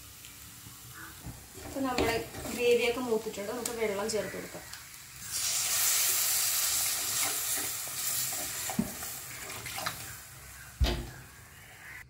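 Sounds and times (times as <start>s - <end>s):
spices sizzling in a pan: 0.0s - 11.7s.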